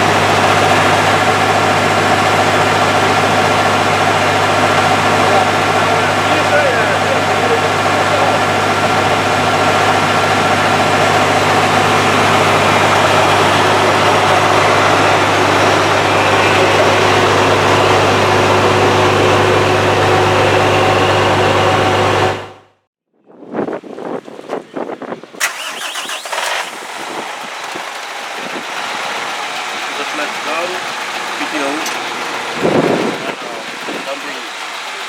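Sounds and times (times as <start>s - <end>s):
diesel truck engine idling: 0.0s - 22.6s, 25.4s - 35.0s.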